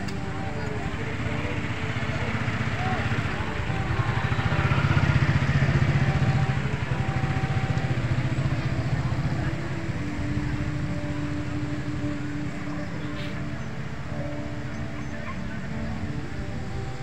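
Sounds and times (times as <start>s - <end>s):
motorcycles and cars passing: 0.0s - 17.0s
vehicle engine running: 0.0s - 17.0s.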